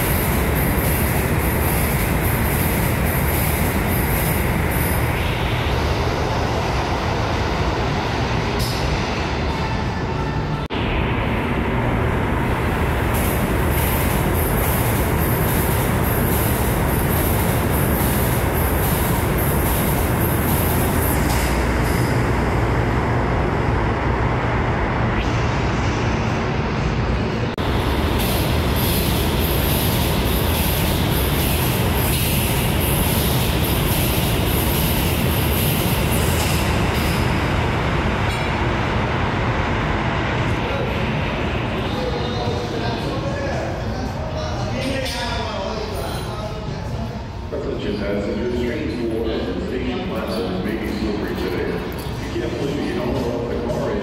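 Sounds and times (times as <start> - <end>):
high-pitched whine: 0.0 - 54.0.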